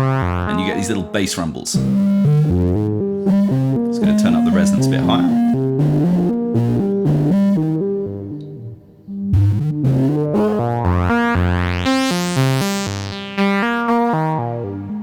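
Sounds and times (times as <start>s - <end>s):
synth bass line: 0.0s - 8.4s, 9.3s - 15.0s.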